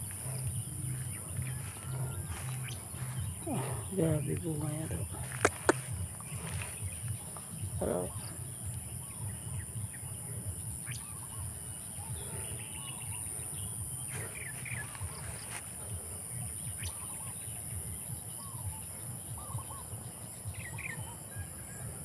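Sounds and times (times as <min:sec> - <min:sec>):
bird chirps: 0:00.0 - 0:17.7.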